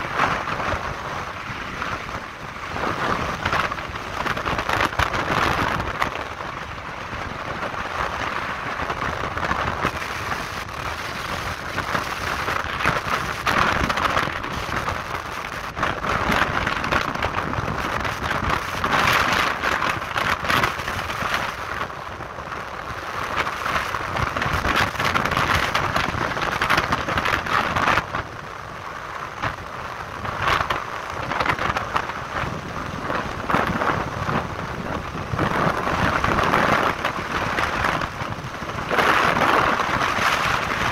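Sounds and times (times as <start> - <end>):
road noise: 0.0 - 40.9
wind buffeting microphone: 0.0 - 40.9.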